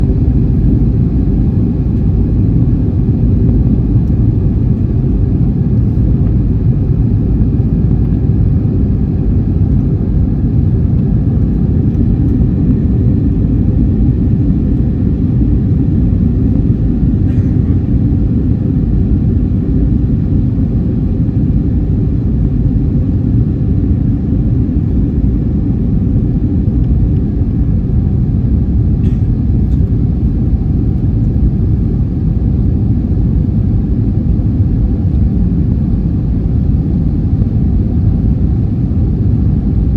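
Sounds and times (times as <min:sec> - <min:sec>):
airplane drone: 0:00.0 - 0:39.9.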